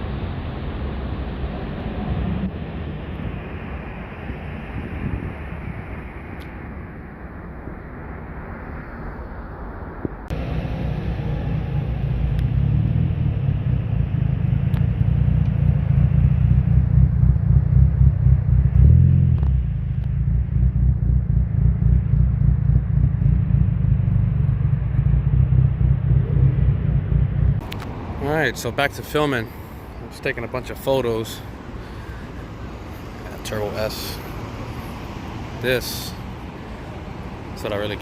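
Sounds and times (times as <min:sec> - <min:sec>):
car engine rumbling: 0:00.0 - 0:38.0.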